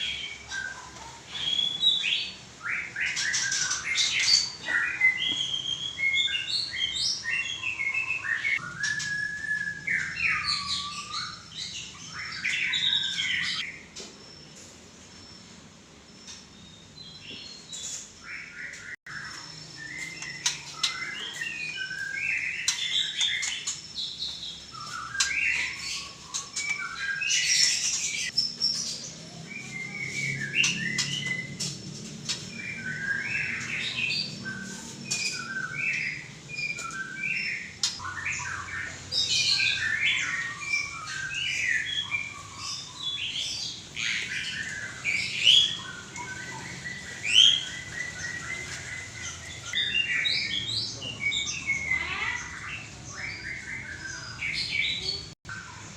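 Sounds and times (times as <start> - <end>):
bird singing: 0.0 - 55.9.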